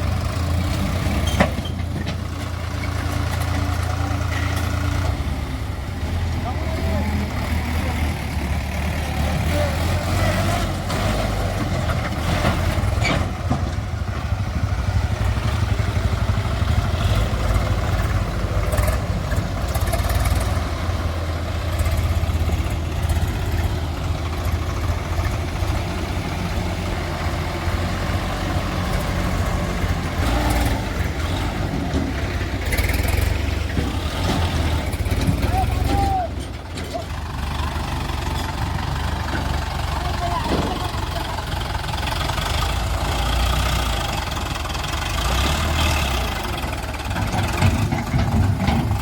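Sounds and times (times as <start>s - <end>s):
diesel engine rumbling: 0.0s - 49.0s.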